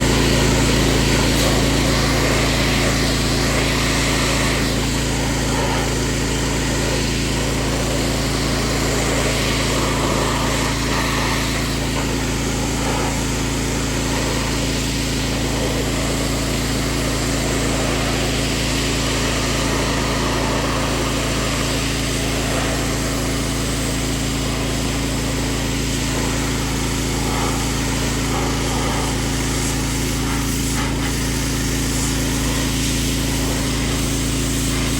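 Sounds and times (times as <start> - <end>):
pressure washer engine running: 0.0 - 34.9
water spray hissing: 0.0 - 34.9.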